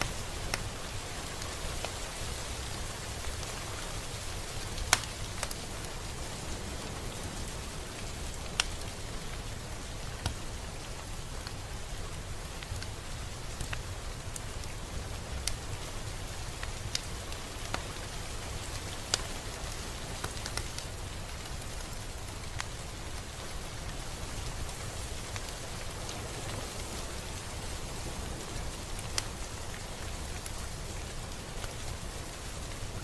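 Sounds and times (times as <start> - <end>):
raindrops ticking: 0.0 - 33.0
steady rain hiss: 0.0 - 33.0.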